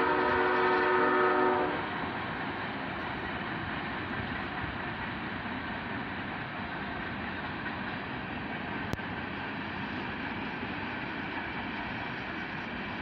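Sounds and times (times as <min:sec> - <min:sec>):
distant freight train running: 0:00.0 - 0:13.0.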